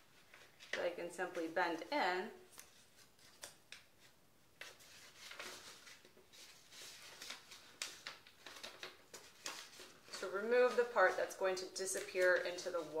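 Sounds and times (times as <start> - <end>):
paper rustling and crinkling: 0.0 - 1.6, 2.4 - 13.0.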